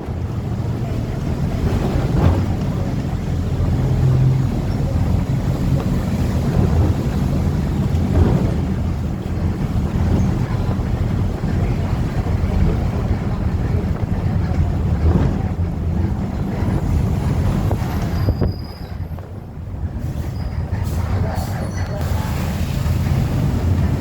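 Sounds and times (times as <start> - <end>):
street and vehicle noise: 0.0 - 24.0
wind rumble on microphone: 0.0 - 24.0.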